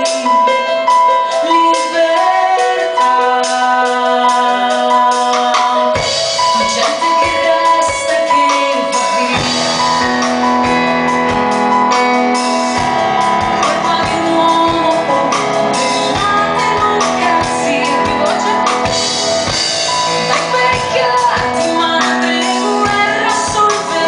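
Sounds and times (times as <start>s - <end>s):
woman singing: 0.0s - 10.9s, 12.8s - 24.0s
live band playing pop: 0.0s - 24.0s.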